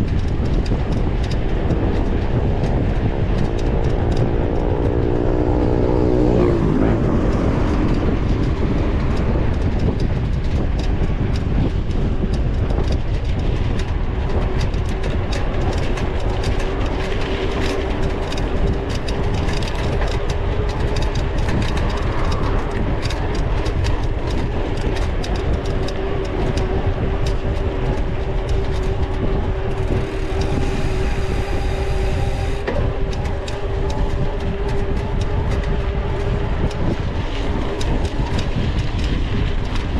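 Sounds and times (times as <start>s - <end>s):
bike rattling clicks: 0.0s - 39.9s
bike tyres rumbling over rough ground: 0.0s - 39.9s
wind noise: 0.0s - 39.9s.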